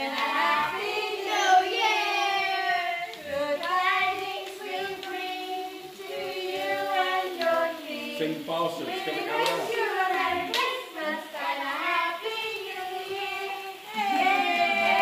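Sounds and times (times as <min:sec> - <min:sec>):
group singing with children: 0:00.0 - 0:15.0.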